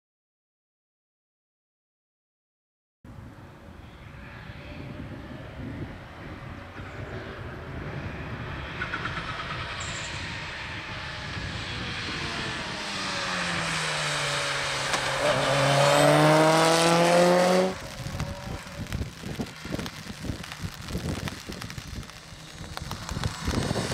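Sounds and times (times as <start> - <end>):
rally car engine passing: 3.9 - 23.9.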